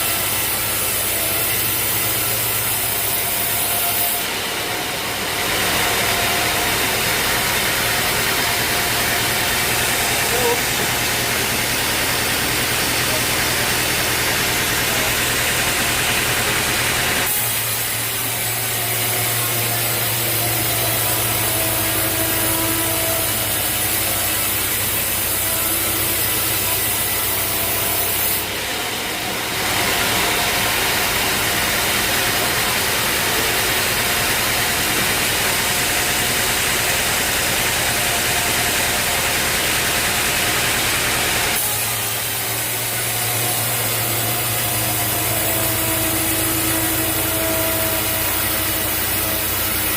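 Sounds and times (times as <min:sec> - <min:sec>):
saw cutting through log: 0:00.0 - 0:49.9
sawmill motor humming: 0:00.0 - 0:49.9.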